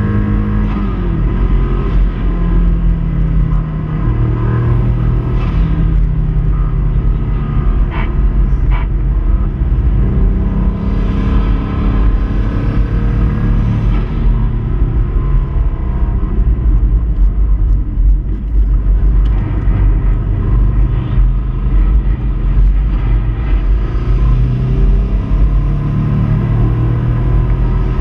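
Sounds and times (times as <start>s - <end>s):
car engine running hard: 0.0s - 28.0s.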